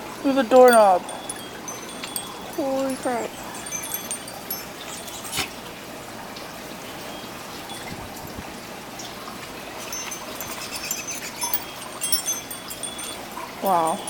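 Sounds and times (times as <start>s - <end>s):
wind chimes tinkling: 0.0s - 14.0s.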